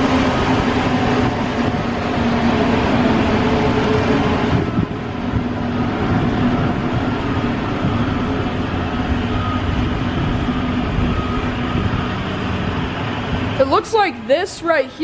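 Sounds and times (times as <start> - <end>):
car wash machinery running: 0.0 - 15.0.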